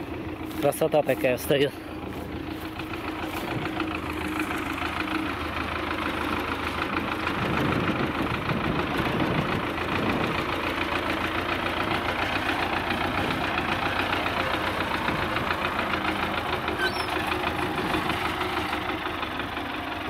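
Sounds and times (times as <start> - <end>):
front-loader tractor engine running: 0.0 - 20.0.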